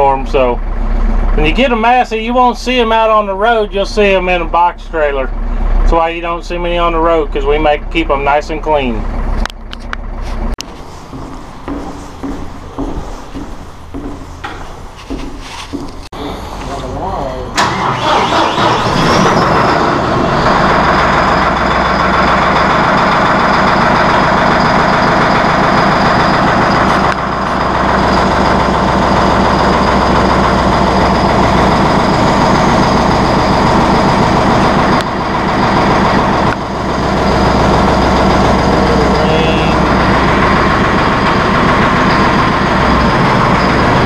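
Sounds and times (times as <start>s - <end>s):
large diesel engine running: 0.0s - 44.0s.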